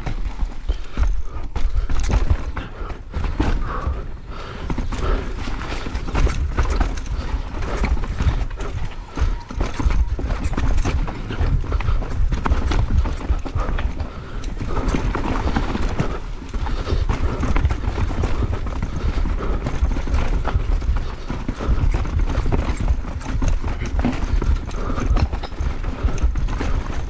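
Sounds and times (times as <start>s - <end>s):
mountain bike rattling over rocks: 0.0s - 27.0s.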